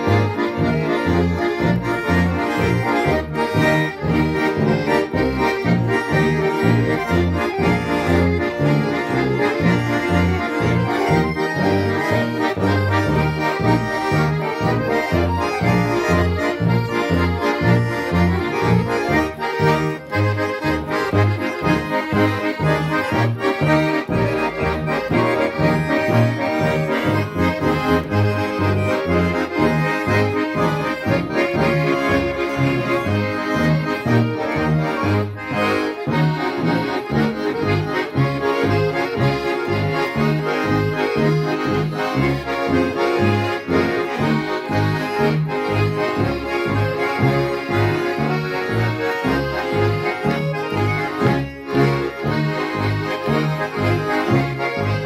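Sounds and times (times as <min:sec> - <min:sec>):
accordions playing melody: 0:00.0 - 0:55.0
double bass notes: 0:00.0 - 0:55.0.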